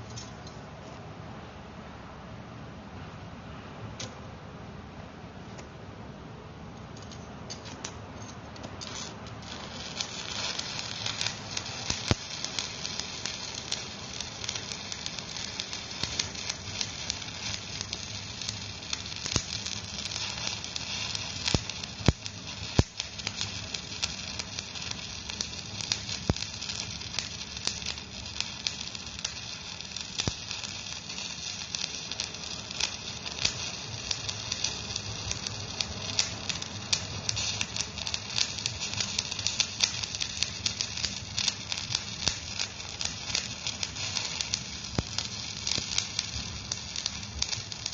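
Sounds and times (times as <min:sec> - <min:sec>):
welding arc crackling and sizzling: 0:00.0 - 0:00.4, 0:07.0 - 0:47.9.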